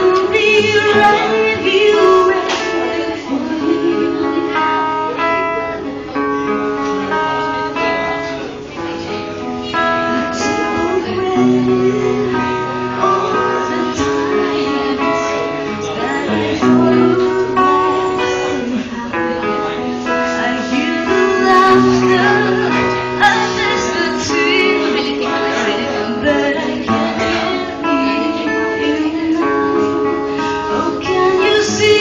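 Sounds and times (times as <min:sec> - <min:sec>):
person singing: 0:00.0 - 0:05.6, 0:09.6 - 0:32.0.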